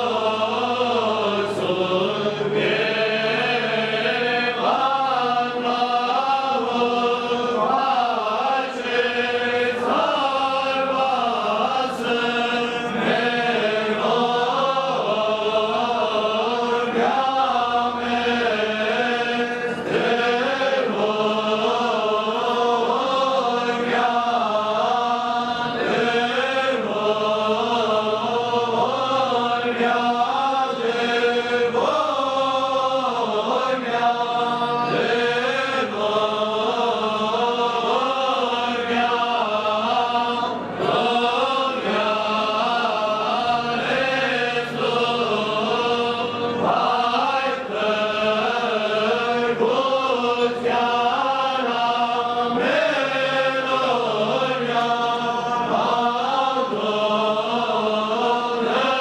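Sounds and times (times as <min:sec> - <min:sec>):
male choir chanting a hymn: 0:00.0 - 0:59.0.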